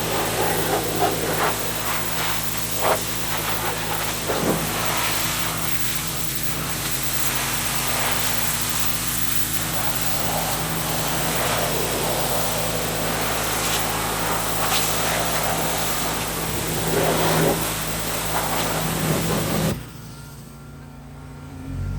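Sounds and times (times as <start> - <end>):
water jet hissing: 0.0 - 20.5
pressure washer motor hum: 0.0 - 20.7.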